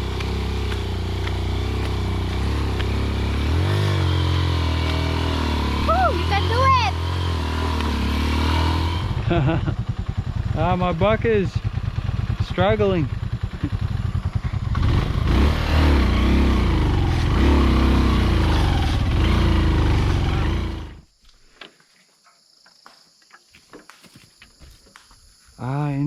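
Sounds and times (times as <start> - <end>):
motorcycle engine revving: 0.0 - 21.1.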